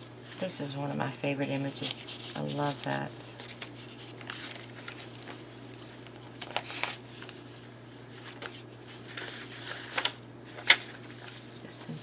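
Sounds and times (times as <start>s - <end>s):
steady low hum: 0.0s - 12.0s
paper rustling and sliding: 1.8s - 11.6s.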